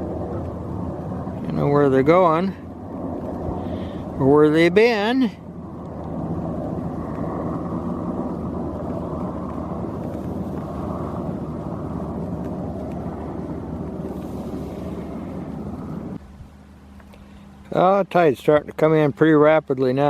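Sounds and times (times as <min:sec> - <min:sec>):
wind on microphone: 0:00.0 - 0:16.6
boat engine drone: 0:00.0 - 0:20.0.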